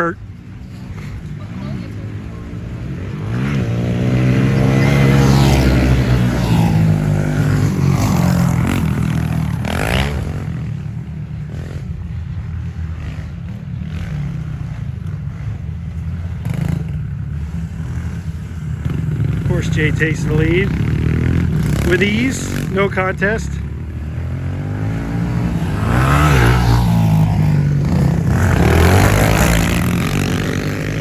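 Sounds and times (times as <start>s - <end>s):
pit bike engines revving: 0.0s - 31.0s.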